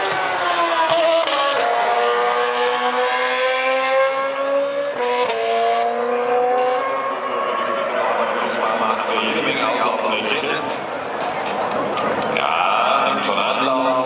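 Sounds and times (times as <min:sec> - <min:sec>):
racing car engine at high revs: 0:00.0 - 0:12.3.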